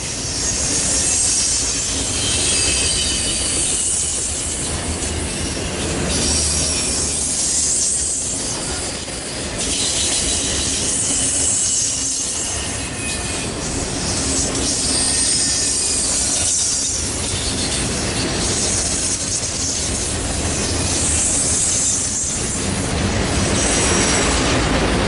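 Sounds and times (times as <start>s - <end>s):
high wheel squeal: 0.0s - 22.8s, 23.4s - 24.6s
train wheels rumbling on rail: 0.0s - 25.0s.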